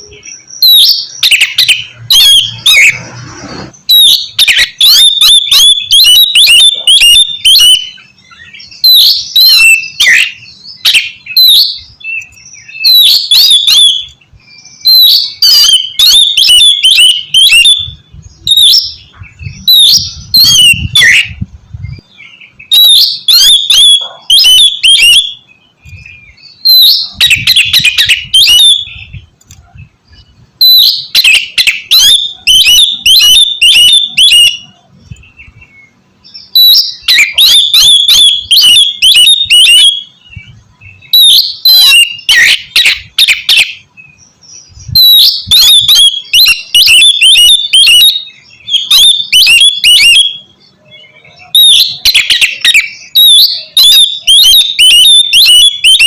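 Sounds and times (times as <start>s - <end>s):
bird singing whistled notes: 0.0s - 3.2s, 3.8s - 56.0s.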